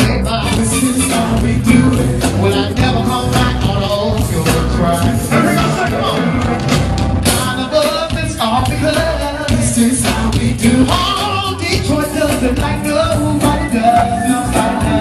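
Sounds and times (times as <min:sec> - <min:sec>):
funk band playing: 0:00.0 - 0:15.0
lead voice singing: 0:00.0 - 0:15.0
steady drum beat: 0:00.0 - 0:15.0.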